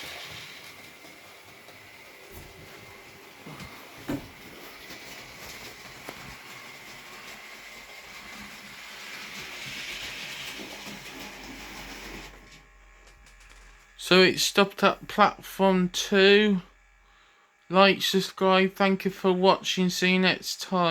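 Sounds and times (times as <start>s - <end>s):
model train motor whirring: 0.0s - 18.3s.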